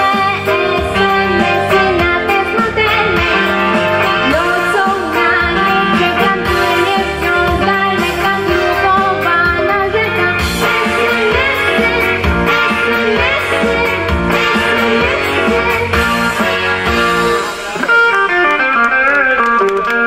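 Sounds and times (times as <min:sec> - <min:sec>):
girl singing into microphone: 0:00.0 - 0:16.2
pop backing track with guitar: 0:00.0 - 0:20.0.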